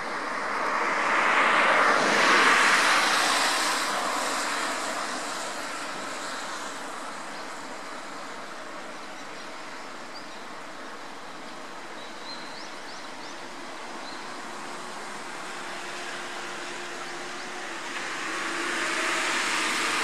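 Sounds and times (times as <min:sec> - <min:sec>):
distant road traffic: 0:00.0 - 0:20.0.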